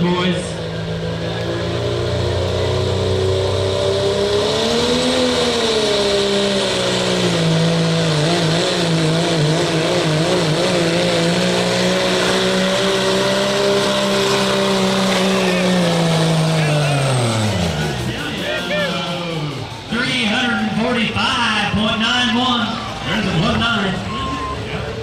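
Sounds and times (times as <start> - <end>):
diesel truck engine revving hard: 0.0 - 25.0.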